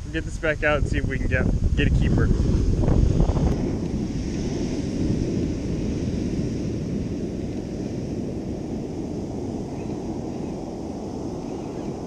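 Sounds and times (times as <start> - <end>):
wind buffeting microphone: 0.0 - 12.0
ocean surf: 2.3 - 12.0.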